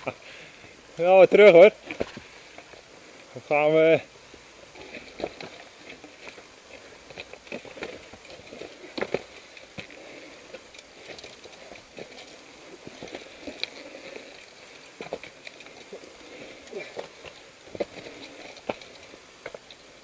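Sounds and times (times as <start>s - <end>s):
mountain bikes knocking and rattling: 0.0s - 20.0s
footsteps on dirt trail: 1.7s - 3.1s, 4.2s - 20.0s.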